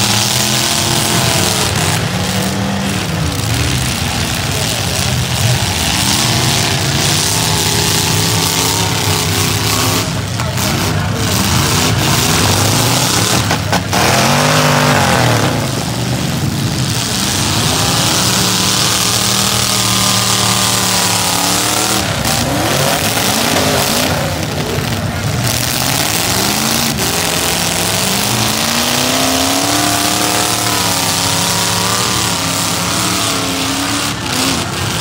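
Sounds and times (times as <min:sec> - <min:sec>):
car engines revving loudly: 0:00.0 - 0:35.0
heavy rush of noise: 0:00.0 - 0:35.0.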